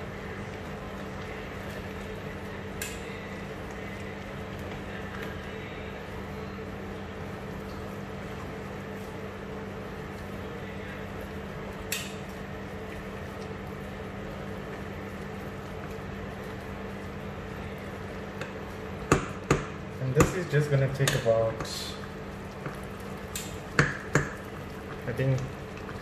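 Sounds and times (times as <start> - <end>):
induction hob humming: 0.0 - 26.0.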